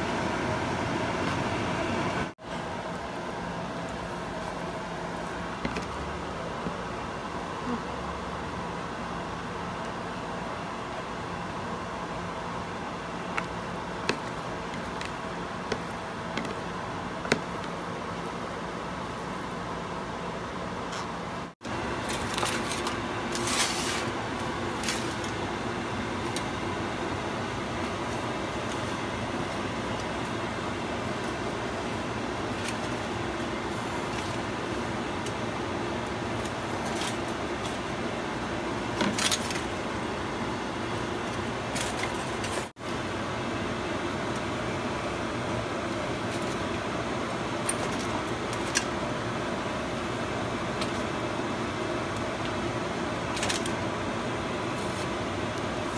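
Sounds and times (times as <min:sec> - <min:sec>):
steady background hum: 0:00.0 - 0:55.9.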